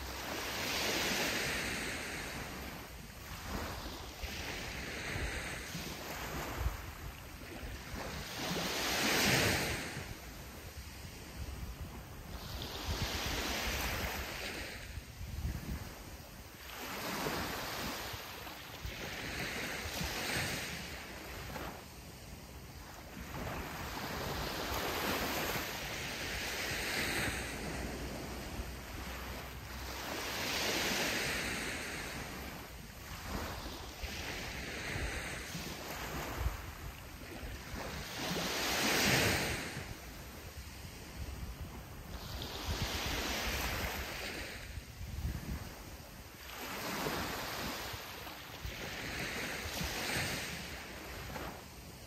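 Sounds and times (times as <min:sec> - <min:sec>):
sea waves breaking on beach: 0:00.0 - 0:52.0.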